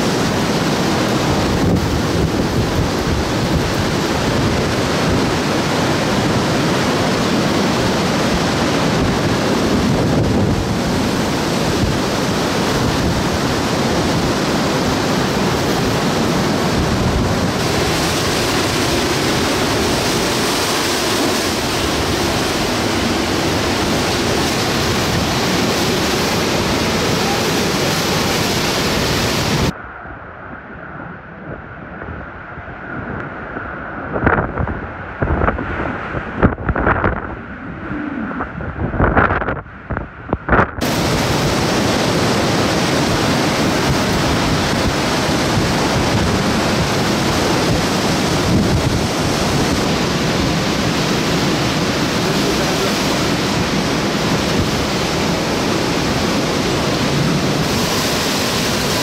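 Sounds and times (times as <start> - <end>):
heavy rain: 0.0 - 29.8, 31.4 - 59.0
gusty wind: 0.0 - 59.0
wind buffeting microphone: 0.0 - 59.0.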